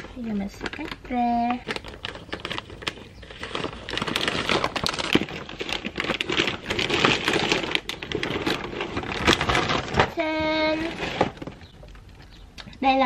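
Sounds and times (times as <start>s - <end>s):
plastic crinkling and rustling: 0.0s - 12.4s.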